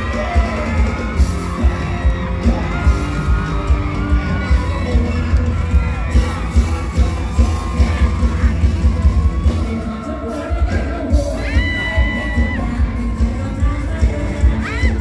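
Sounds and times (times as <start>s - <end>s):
crowd cheering and screaming: 0.0s - 15.0s
live concert music with bass beat: 0.0s - 15.0s.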